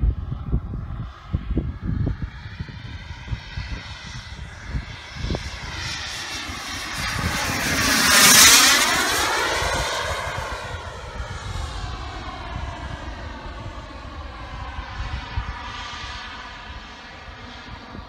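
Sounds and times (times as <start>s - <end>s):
model jet turbine whine: 0.0s - 18.0s.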